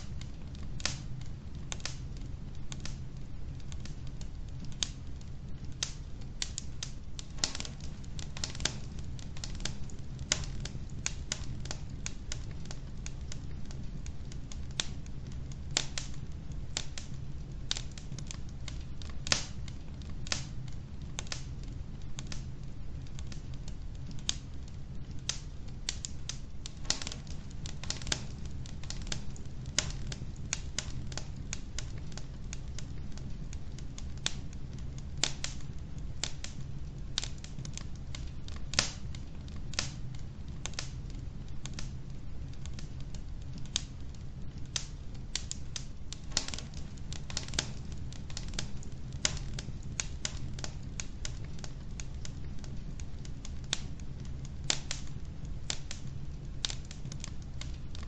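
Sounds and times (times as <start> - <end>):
fire low rumble: 0.0 - 58.0
wood fire crackling and popping: 0.0 - 58.0.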